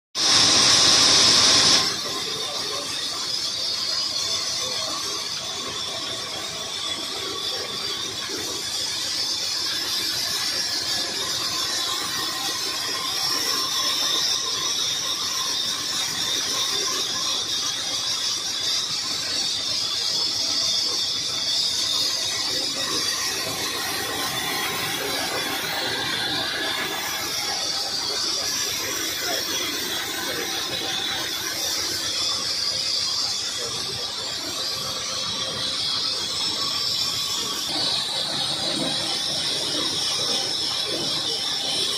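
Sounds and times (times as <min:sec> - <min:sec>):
band saw squealing through log: 0:00.2 - 0:41.9.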